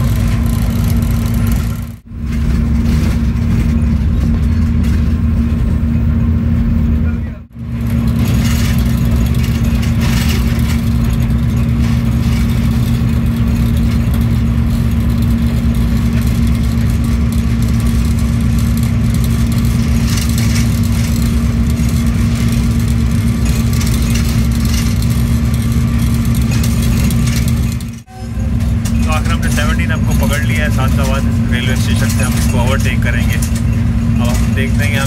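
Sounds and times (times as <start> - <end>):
locomotive engine drone: 0.0 - 35.0
wheels on track: 0.0 - 35.0.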